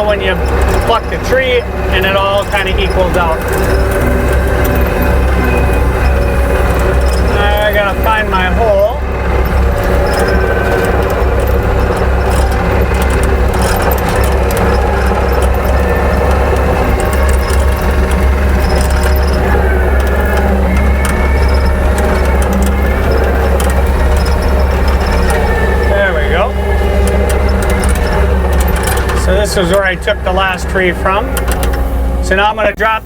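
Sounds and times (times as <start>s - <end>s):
diesel engine running: 0.0s - 33.0s
machine clanks and rattles: 0.0s - 33.0s.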